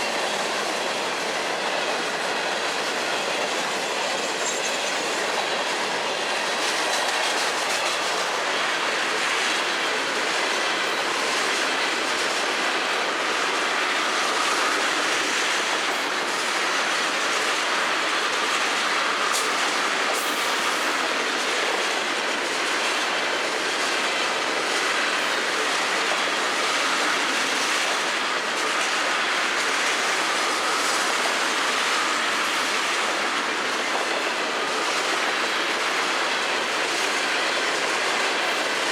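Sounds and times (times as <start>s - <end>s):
train wheels rolling on rails: 0.0s - 38.9s.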